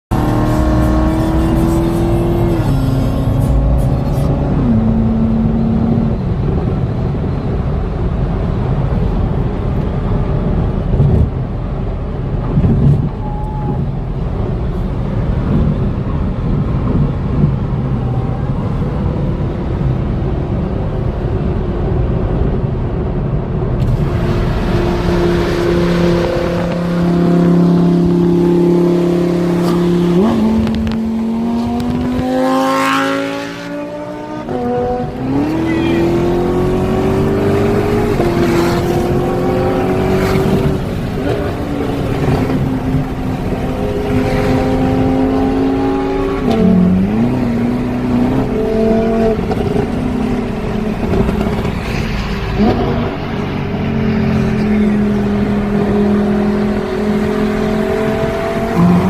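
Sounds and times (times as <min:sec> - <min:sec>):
road noise: 0:00.1 - 0:59.0.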